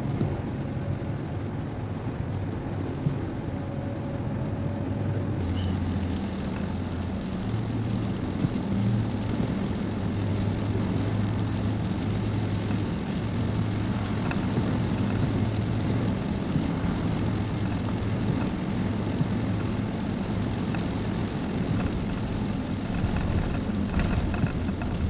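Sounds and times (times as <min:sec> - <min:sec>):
car engine hum: 0:00.0 - 0:25.0
tyres hissing on wet road: 0:00.0 - 0:25.0
wind: 0:00.0 - 0:25.0.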